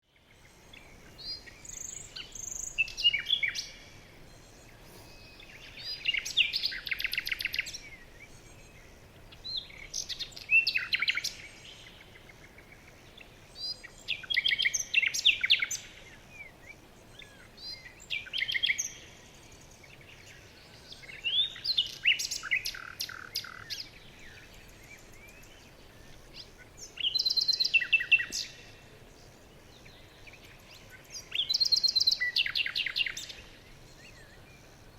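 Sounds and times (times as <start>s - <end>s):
faint steady hiss: 0.0s - 34.9s
quieter bird calls: 0.0s - 34.9s.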